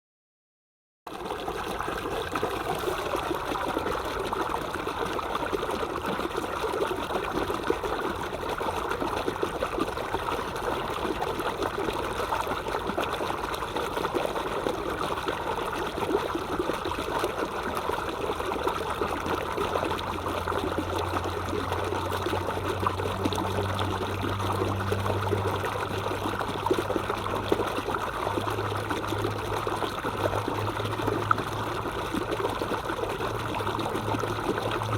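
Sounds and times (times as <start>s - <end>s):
stream water babbling: 1.1s - 34.9s
low steady hum: 1.2s - 34.9s.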